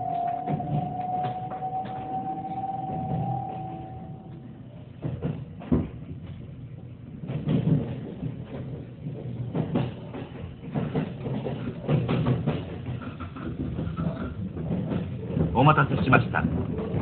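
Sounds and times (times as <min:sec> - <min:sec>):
train car rumble: 0:00.0 - 0:17.0.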